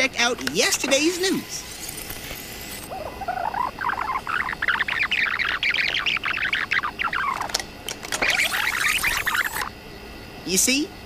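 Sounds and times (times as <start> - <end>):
high-pitched squeaky chattering: 0.6 - 9.7.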